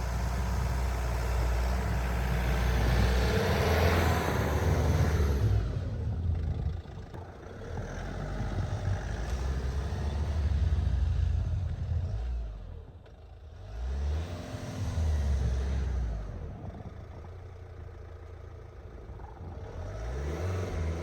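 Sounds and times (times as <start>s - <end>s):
van engine revving: 0.0s - 21.0s.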